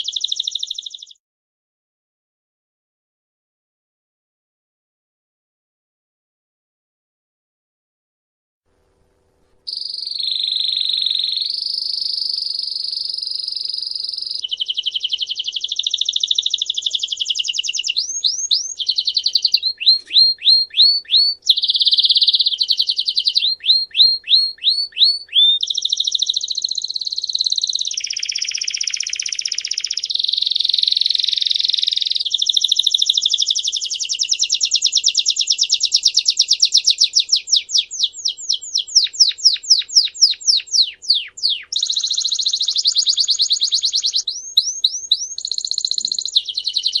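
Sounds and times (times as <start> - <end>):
songbird singing trills: 0.0 - 1.2, 9.7 - 47.0.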